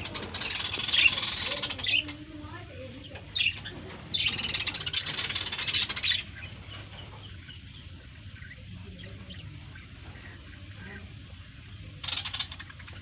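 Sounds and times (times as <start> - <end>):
birds chirping: 0.0 - 13.0
low steady hum: 0.0 - 13.0.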